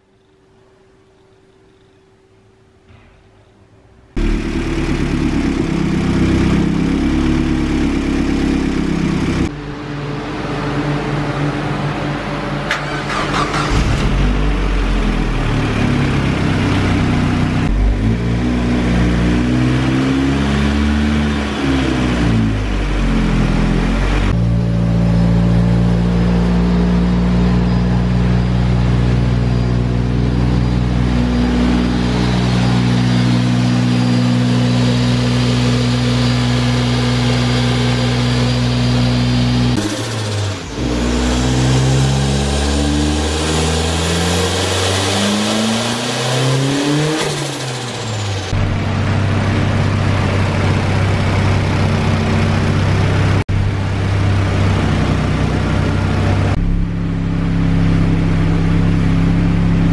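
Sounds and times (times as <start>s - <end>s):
car engine revving: 4.2s - 59.9s.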